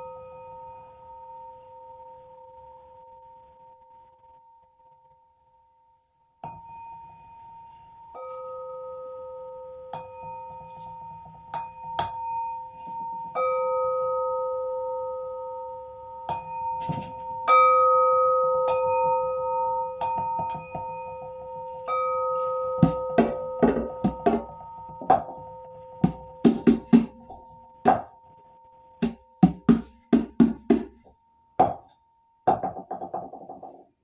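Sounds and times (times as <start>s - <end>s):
bronze bells ringing: 0.0s - 5.6s, 6.4s - 32.8s.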